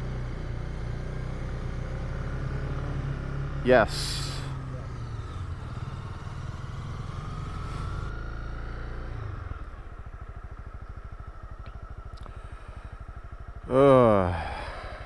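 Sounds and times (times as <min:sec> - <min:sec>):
motorcycle engine running and idling: 0:00.0 - 0:15.0.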